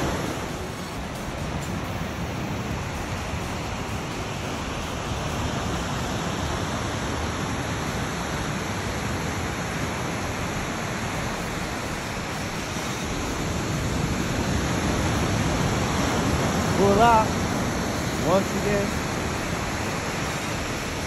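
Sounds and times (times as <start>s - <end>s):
ocean surf rushing: 0.0s - 21.0s.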